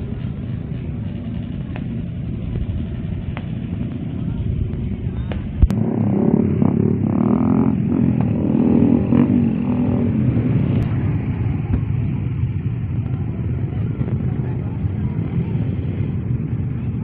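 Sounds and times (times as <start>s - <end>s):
motorcycles on loud open exhausts: 0.0s - 17.0s.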